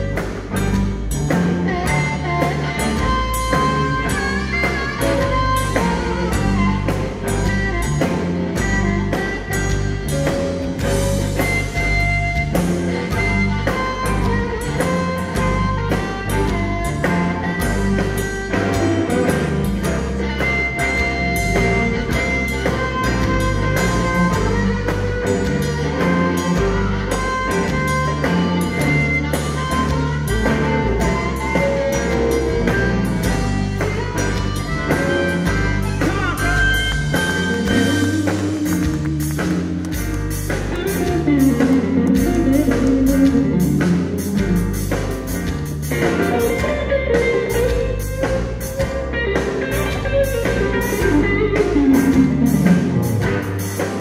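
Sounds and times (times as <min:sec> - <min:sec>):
bass guitar: 0:00.0 - 0:54.0
bending electric guitar lines: 0:00.0 - 0:54.0
drum kit: 0:00.0 - 0:54.0.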